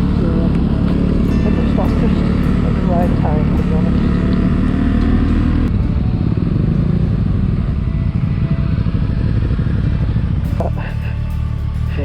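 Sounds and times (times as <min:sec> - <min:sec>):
motorcycle engine running: 0:00.0 - 0:12.0
riding wind rushing: 0:00.0 - 0:12.0.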